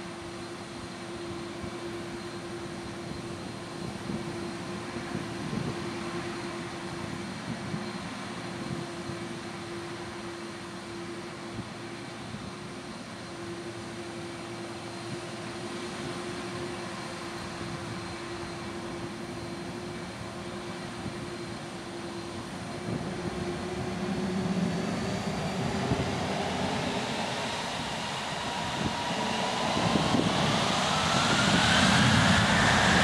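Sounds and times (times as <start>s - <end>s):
jet engines whining: 0.0s - 33.0s.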